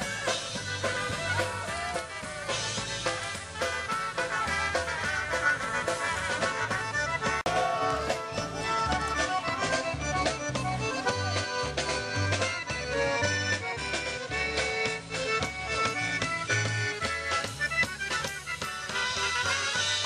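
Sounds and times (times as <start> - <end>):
accordion melody: 0.0 - 20.0
bass line: 0.0 - 20.0.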